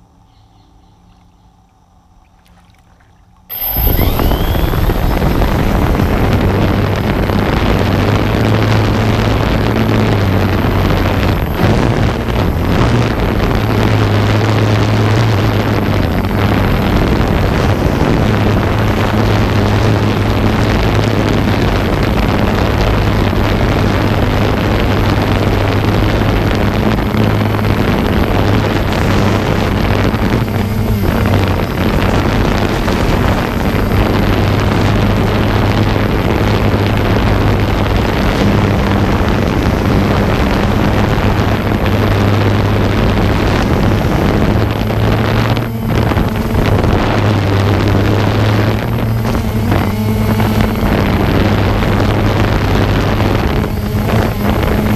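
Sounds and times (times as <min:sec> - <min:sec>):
drone propellers humming: 0:00.0 - 0:54.9
wind noise on microphone: 0:03.5 - 0:54.9.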